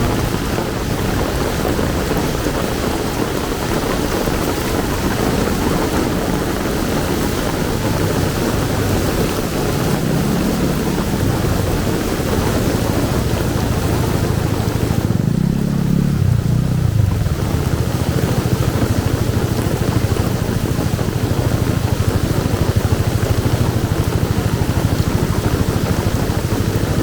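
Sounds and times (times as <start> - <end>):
heavy rain falling: 0.0 - 27.0
low vehicle engine hum: 0.0 - 27.0.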